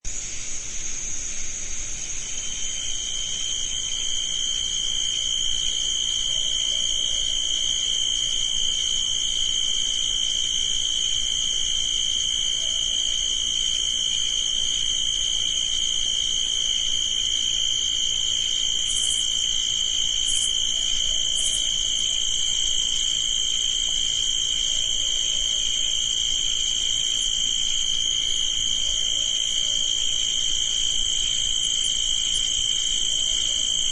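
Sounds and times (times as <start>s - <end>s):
crickets chirping: 0.1s - 33.9s
lower-pitched insect trill: 0.1s - 33.9s.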